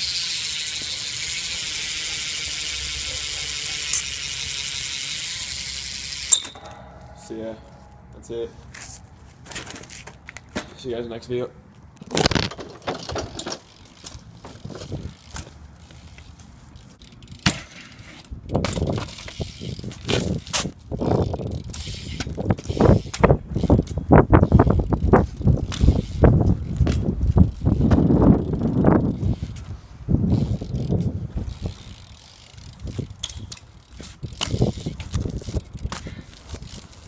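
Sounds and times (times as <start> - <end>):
bike tyres rolling: 0.0 - 7.8, 8.7 - 10.9, 11.8 - 37.0
bike knocks and rattles: 0.0 - 11.2, 12.0 - 37.0.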